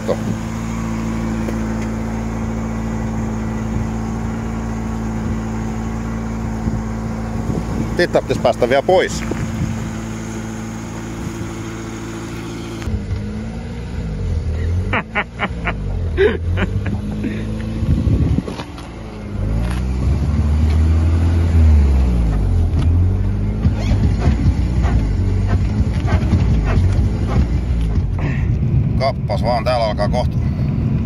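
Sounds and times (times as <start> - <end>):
deep exhaust drone: 0.0 - 29.4.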